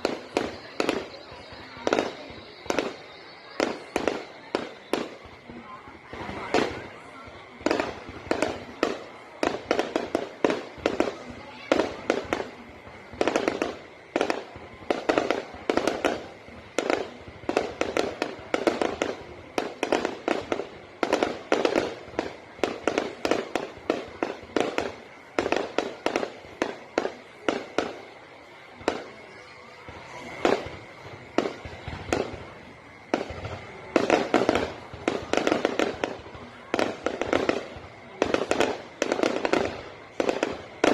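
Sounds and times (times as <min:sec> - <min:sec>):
fireworks banging: 0:00.0 - 0:40.9.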